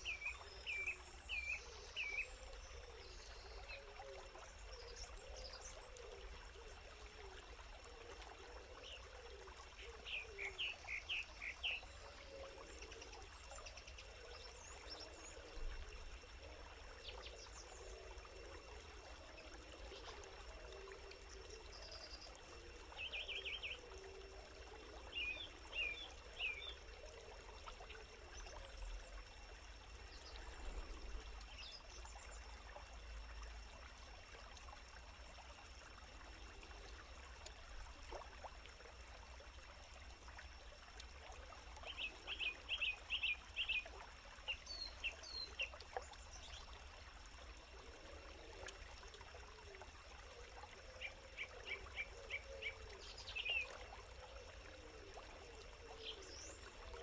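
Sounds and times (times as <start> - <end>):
small stream hissing: 0.0 - 57.0.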